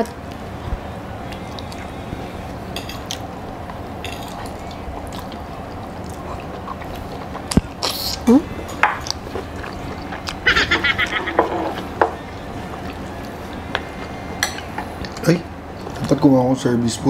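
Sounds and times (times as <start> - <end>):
steady background hum: 0.0 - 17.0
pork skin being chewed: 1.3 - 16.2.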